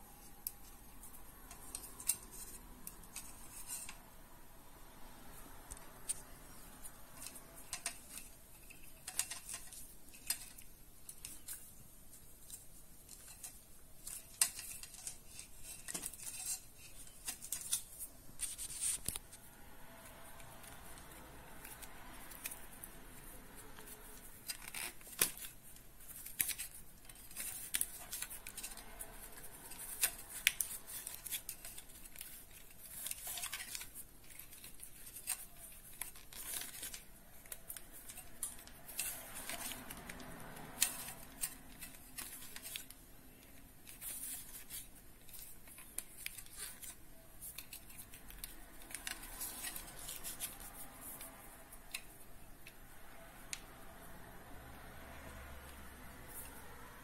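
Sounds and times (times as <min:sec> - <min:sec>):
wires scraping and rustling: 0:00.0 - 0:57.0.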